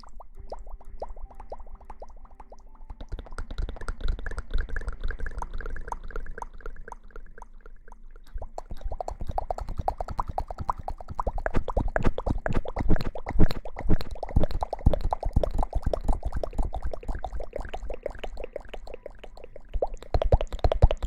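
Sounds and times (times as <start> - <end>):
wet lather crackling and squishing: 0.0 - 21.0.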